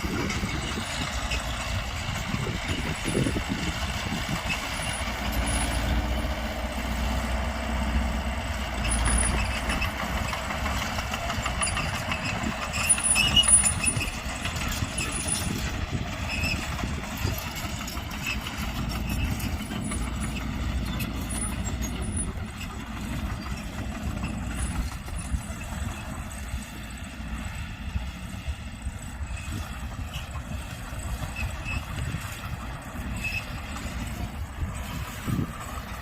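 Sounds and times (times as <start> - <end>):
diesel engine drone: 0.0 - 36.0.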